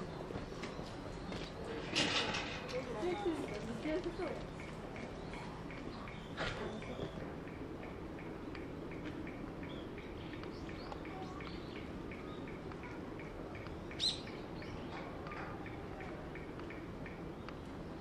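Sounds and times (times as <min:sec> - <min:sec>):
small birds chirping: 0:02.6 - 0:18.0.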